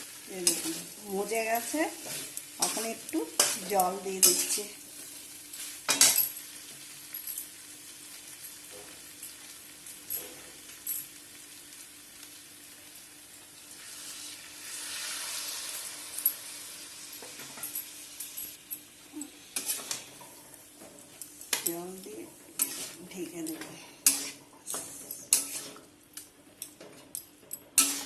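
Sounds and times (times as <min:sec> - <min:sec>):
greens sizzling in a pan: 0:00.0 - 0:26.3, 0:27.8 - 0:28.0.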